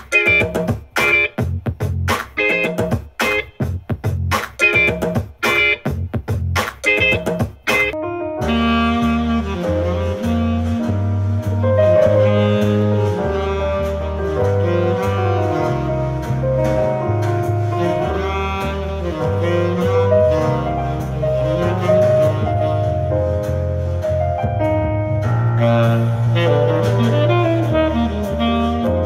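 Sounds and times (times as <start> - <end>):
jazz with saxophone and double bass: 0.0 - 29.0.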